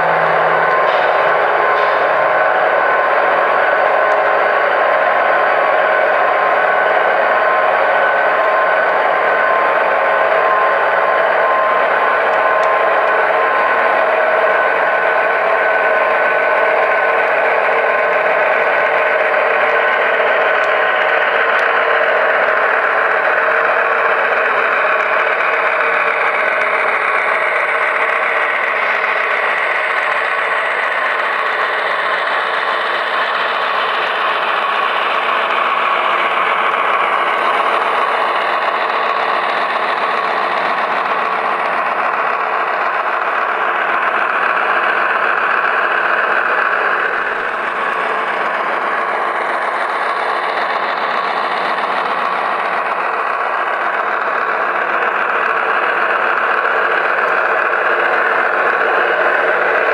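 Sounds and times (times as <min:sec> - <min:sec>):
model locomotive diesel engine sound: 0:00.0 - 0:59.9.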